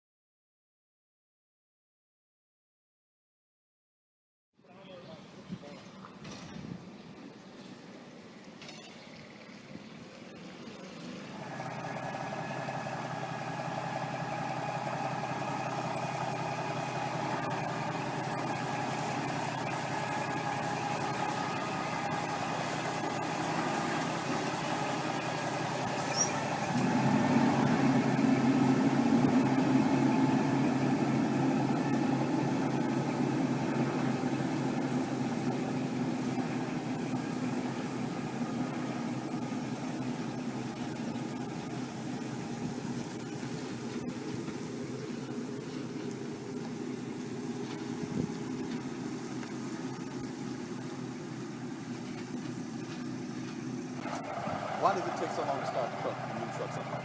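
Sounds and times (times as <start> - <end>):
diesel truck engine idling: 6.9 - 57.0.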